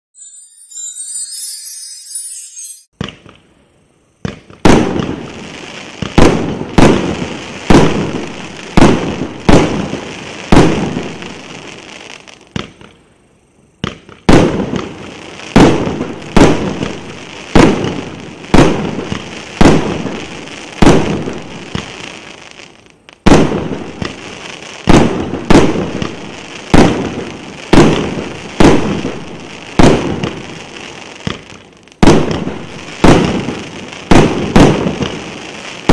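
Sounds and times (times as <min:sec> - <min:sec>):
fireworks shots: 0:04.2 - 0:11.8, 0:12.4 - 0:13.0, 0:13.8 - 0:35.9.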